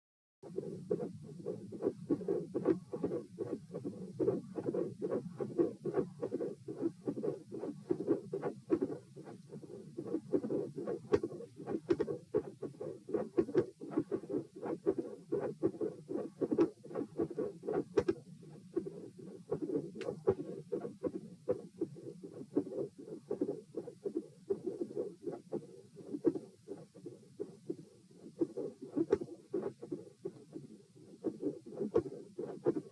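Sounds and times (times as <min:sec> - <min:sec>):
heartbeat: 0:00.4 - 0:32.9.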